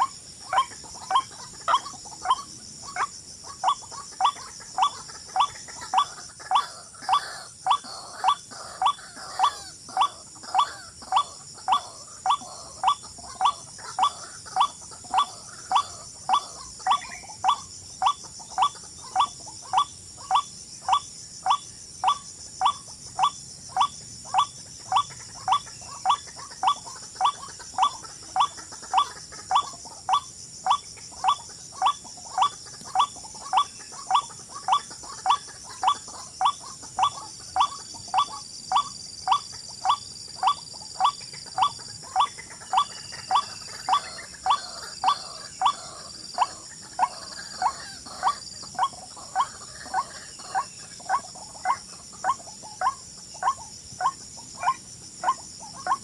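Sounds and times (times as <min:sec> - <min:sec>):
high insect drone: 0:00.0 - 0:56.0
repeated animal call: 0:00.0 - 0:56.0.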